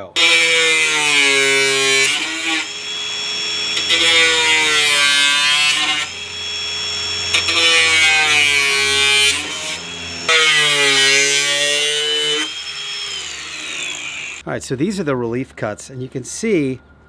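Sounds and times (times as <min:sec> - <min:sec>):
power tool cutting fiberglass: 0:00.1 - 0:14.4.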